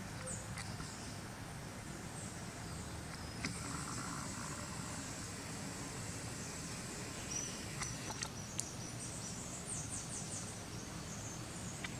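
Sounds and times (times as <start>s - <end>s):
insect drone: 1.9s - 11.9s.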